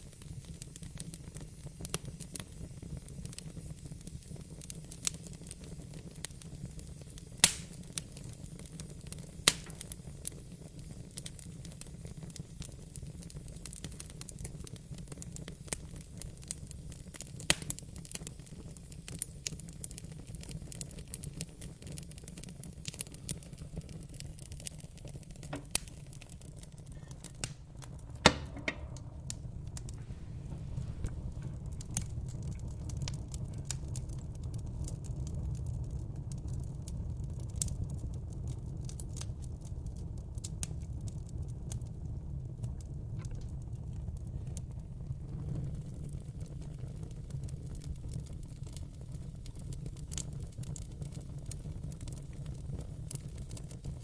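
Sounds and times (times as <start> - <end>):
fire popping and snapping: 0.0 - 54.0
low rumble of flame: 0.0 - 54.0
wood fire crackling: 0.0 - 54.0.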